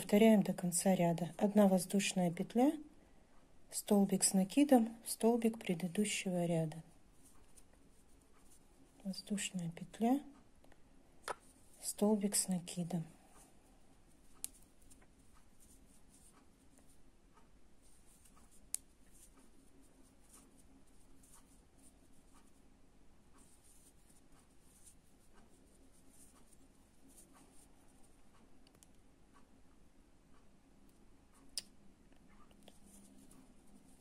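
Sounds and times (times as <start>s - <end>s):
crochet hook scratching yarn: 0.0s - 2.9s, 3.7s - 10.5s, 11.2s - 29.5s, 32.3s - 34.0s.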